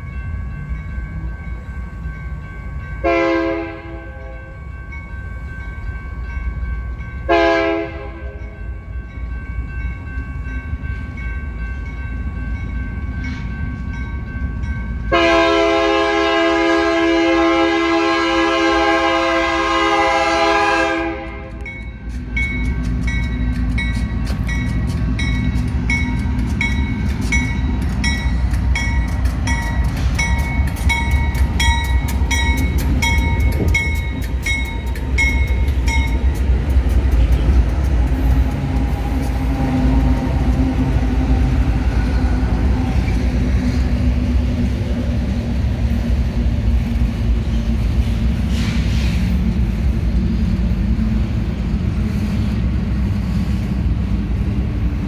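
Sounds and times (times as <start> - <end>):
crossing warning bell ringing: 0.0 - 48.6
freight train rumbling: 0.0 - 55.0
train cars rolling by: 0.0 - 55.0.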